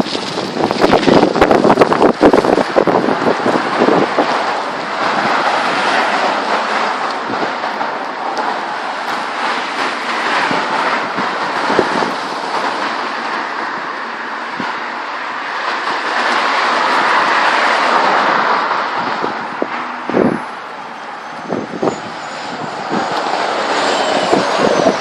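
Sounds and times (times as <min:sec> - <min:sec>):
gale-force wind rushing: 0:00.0 - 0:25.0.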